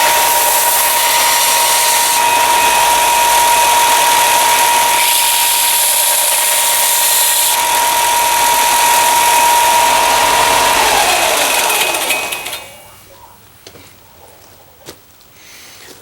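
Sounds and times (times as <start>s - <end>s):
belt sander whine: 0.0s - 13.0s.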